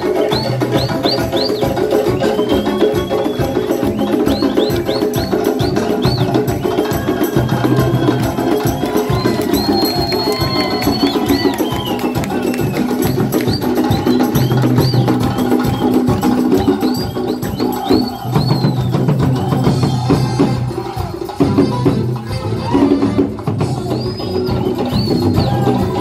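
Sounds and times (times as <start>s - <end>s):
hand drums playing: 0.0s - 26.0s
high whistle-like sounds: 0.2s - 21.0s, 23.6s - 26.0s.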